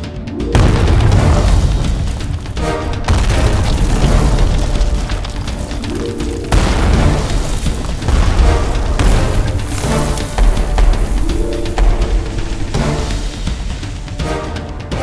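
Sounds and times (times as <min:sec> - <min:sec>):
dramatic music: 0:00.0 - 0:15.0
booming explosions: 0:00.5 - 0:14.2
deep rumble: 0:00.6 - 0:14.2.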